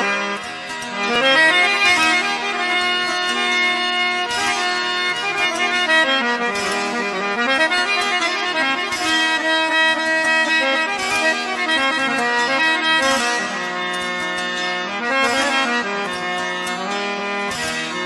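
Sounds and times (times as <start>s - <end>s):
free-reed instrument folk melody: 0.0s - 18.0s.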